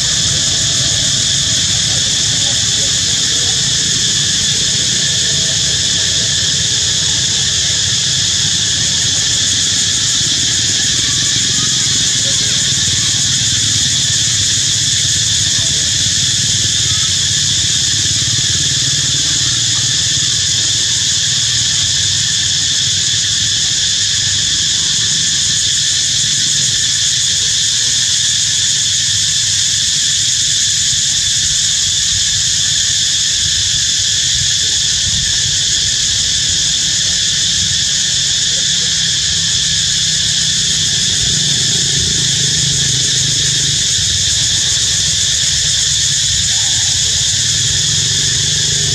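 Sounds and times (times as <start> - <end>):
insect chorus buzzing: 0.0 - 48.9.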